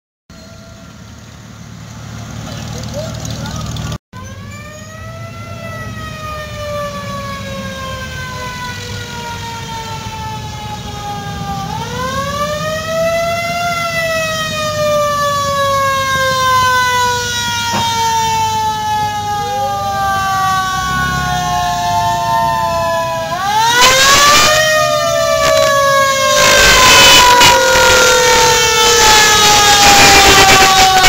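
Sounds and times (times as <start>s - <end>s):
siren wailing: 0.3s - 1.5s, 4.2s - 31.0s
car engines rumbling: 0.4s - 31.0s.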